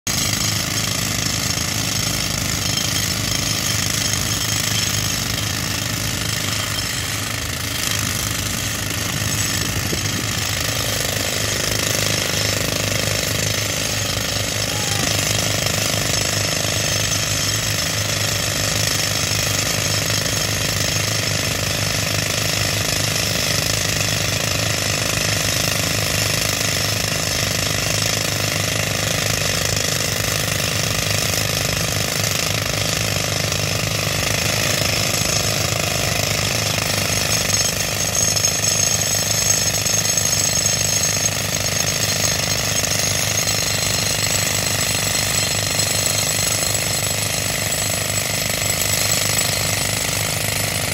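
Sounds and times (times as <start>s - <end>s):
pneumatic rock drill rattling: 0.1s - 50.9s.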